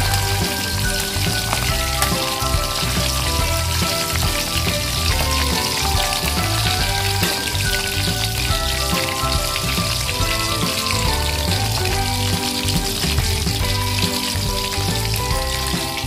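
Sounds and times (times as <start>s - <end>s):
background music with bassline: 0.0s - 16.0s
prawns deep-frying in oil: 0.0s - 16.0s.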